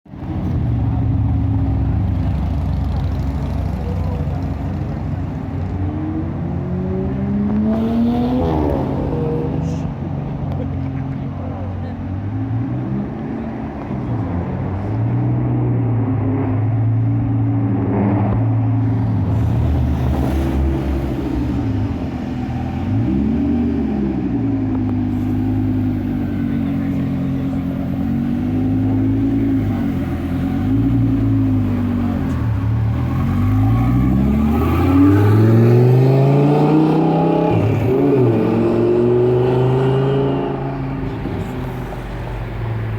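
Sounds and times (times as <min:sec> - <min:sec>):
sports car engine deep rumble: 0:00.1 - 0:42.9.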